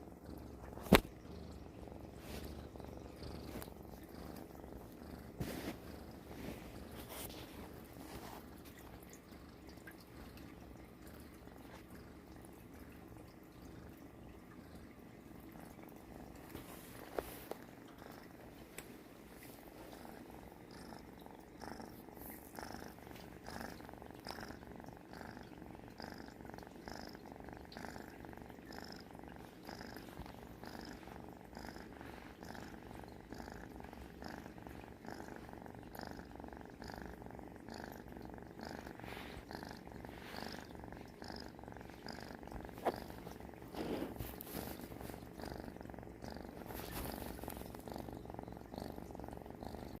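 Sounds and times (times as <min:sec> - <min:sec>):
cat purring: 0:00.0 - 0:50.0.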